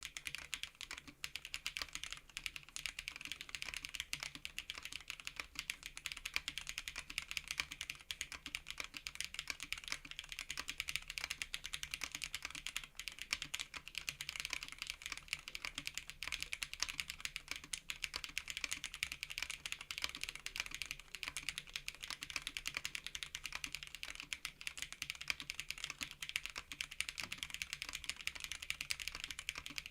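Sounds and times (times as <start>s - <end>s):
fast mechanical keyboard typing: 0.0s - 29.9s.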